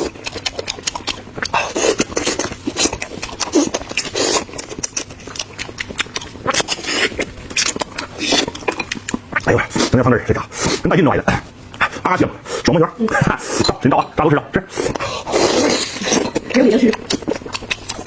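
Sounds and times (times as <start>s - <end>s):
person chewing and lip-smacking: 0.0s - 11.4s, 12.8s - 18.0s.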